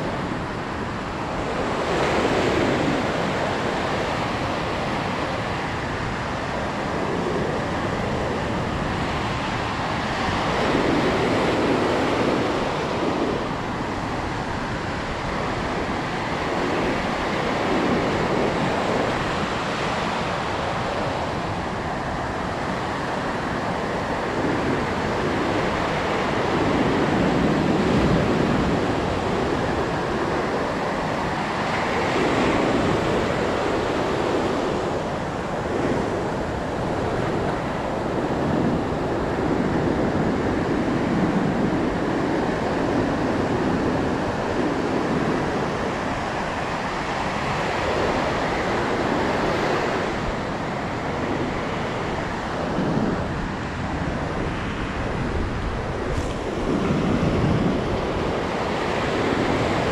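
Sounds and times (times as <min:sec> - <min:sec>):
surf breaking on beach: 0:00.0 - 0:59.9.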